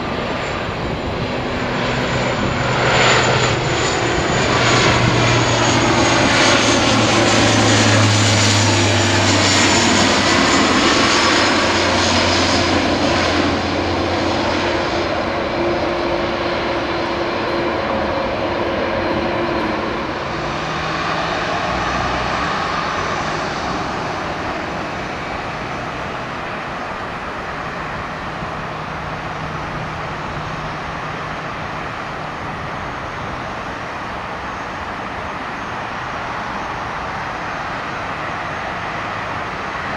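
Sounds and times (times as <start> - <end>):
turboprop airliner propeller drone: 0.0 - 39.9.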